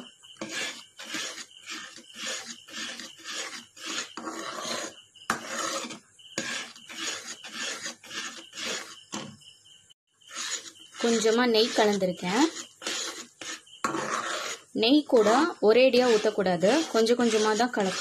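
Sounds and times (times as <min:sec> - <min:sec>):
spatula scraping a pan: 0:00.0 - 0:09.3, 0:10.2 - 0:18.0.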